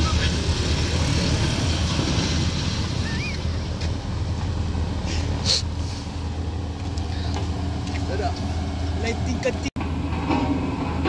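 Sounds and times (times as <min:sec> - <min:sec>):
vehicle engines humming: 0:00.0 - 0:11.0.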